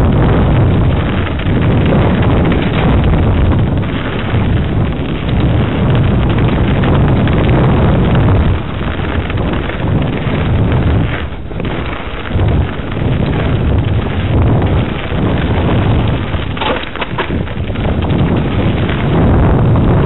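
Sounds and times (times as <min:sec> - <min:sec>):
bike rattling over dirt trail: 0:00.0 - 0:20.0
wind buffeting microphone: 0:00.0 - 0:20.0.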